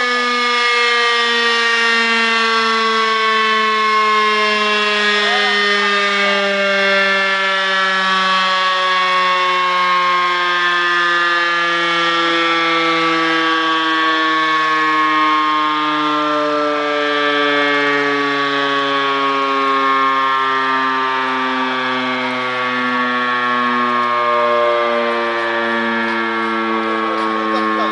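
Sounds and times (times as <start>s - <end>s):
electric rotary siren winding down: 0.0s - 27.9s.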